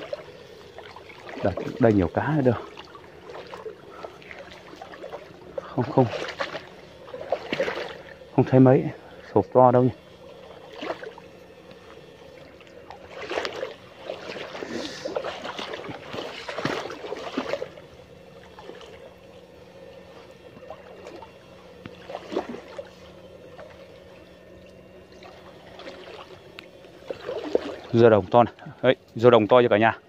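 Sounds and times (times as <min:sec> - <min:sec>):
stream water splashing: 0:00.0 - 0:09.3, 0:10.0 - 0:28.6
faint steady hum: 0:00.0 - 0:30.0.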